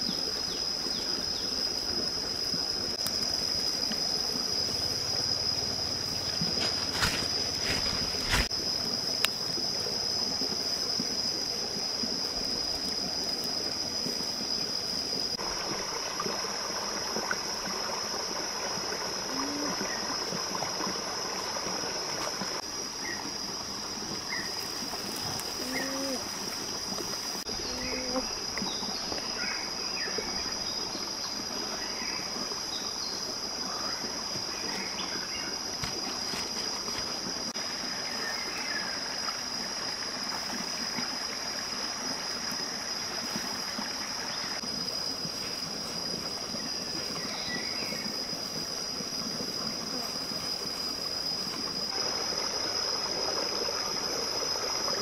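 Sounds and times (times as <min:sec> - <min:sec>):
stream trickling over rocks: 0:00.0 - 0:55.0.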